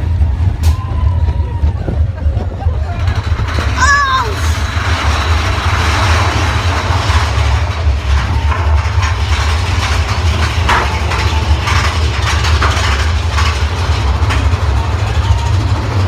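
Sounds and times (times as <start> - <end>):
roller coaster low rumble: 0.0 - 16.0
mechanical ratchet clacks: 2.4 - 16.0.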